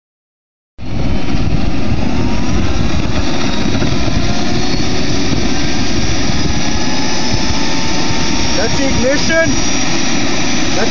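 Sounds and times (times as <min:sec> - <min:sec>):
faint engine whine rising: 0:00.8 - 0:10.9
wind buffeting microphone: 0:00.8 - 0:10.9.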